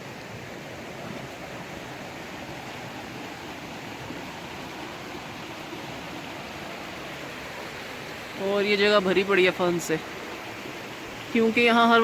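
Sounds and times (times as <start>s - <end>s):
flowing water hissing: 0.0s - 12.0s.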